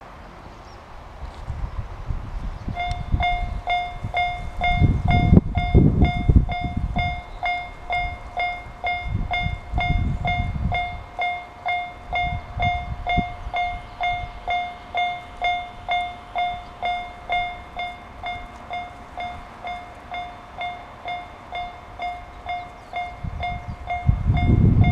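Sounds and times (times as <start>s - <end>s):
level-crossing alarm dinging: 2.8s - 24.9s.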